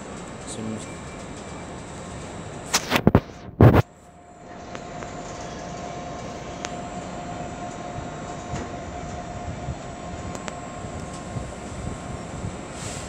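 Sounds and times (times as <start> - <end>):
train running: 0.0 - 13.0
train whine: 0.0 - 13.0.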